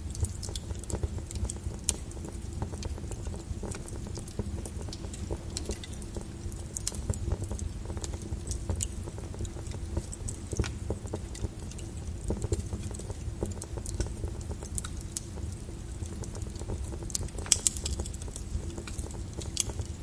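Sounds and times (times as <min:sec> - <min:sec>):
rain rumbling: 0:00.0 - 0:20.0
wood fire crackling: 0:00.0 - 0:20.0.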